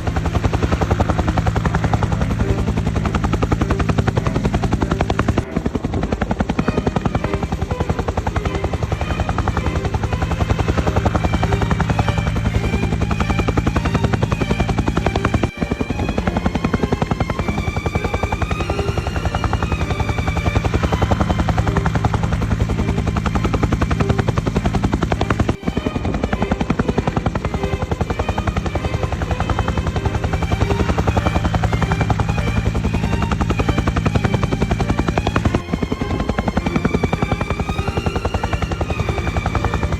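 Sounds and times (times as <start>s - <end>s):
helicopter rotor blades chopping: 0.0s - 39.9s
turbine drone: 0.0s - 39.9s.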